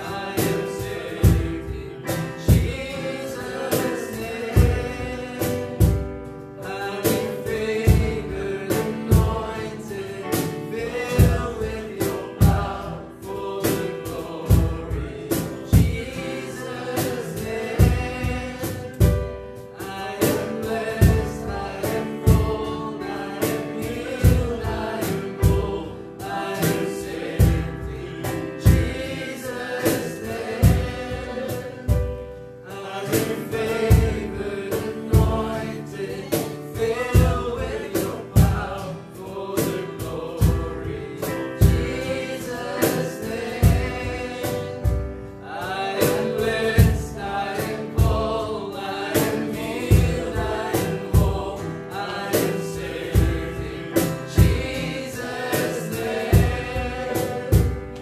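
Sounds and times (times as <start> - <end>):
keyboard: 0.0 - 58.0
men singing: 0.0 - 58.0
percussion beat: 0.0 - 58.0
strummed acoustic guitar: 0.0 - 58.0.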